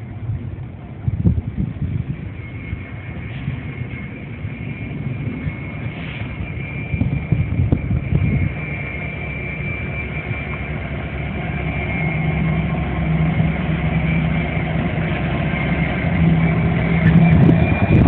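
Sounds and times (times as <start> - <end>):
diesel locomotive engine passing: 0.0 - 18.0.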